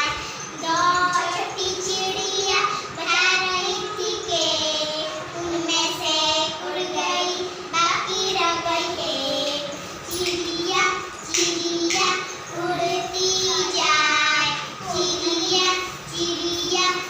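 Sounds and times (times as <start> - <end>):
children singing rhyme: 0.0 - 17.0.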